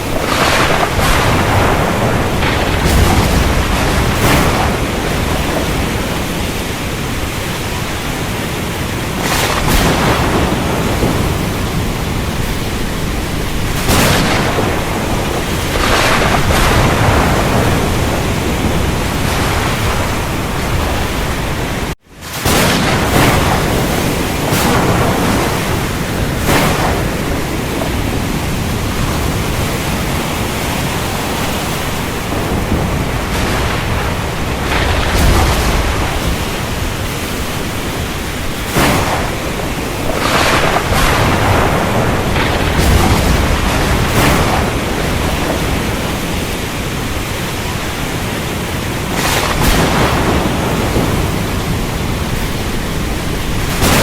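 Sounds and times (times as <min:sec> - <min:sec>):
heavy rain: 0:00.0 - 0:54.0
low rumbles of thunder: 0:00.0 - 0:54.0
thunder cracks: 0:00.0 - 0:54.0.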